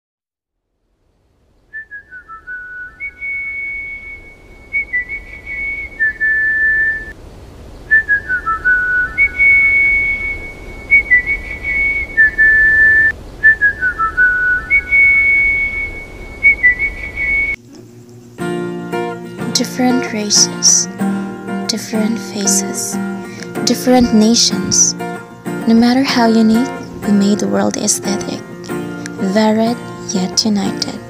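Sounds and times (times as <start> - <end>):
faint low hiss: 0.5 - 31.0
whistled melody: 1.7 - 7.2, 7.9 - 17.6, 19.0 - 31.0.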